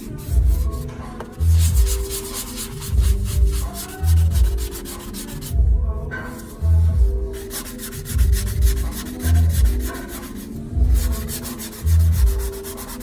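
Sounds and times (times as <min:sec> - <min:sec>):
hand sanding plaster: 0:00.0 - 0:05.6, 0:06.3 - 0:13.0.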